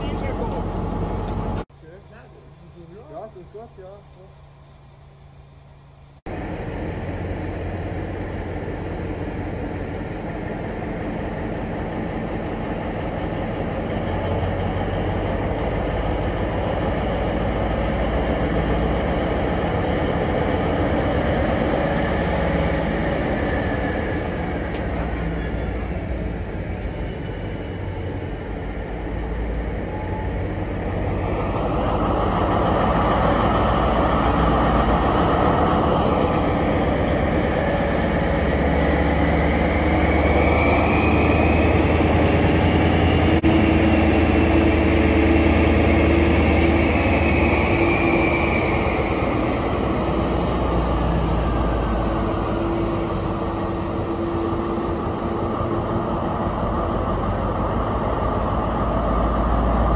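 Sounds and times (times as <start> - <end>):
diesel railway engine rumbling: 0.0 - 59.9.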